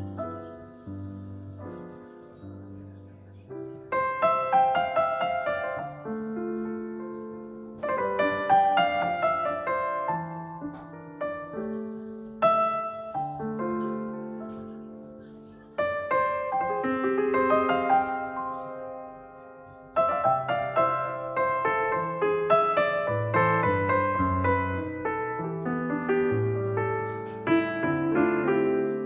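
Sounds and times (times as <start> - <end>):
gentle piano music: 0.0 - 29.0.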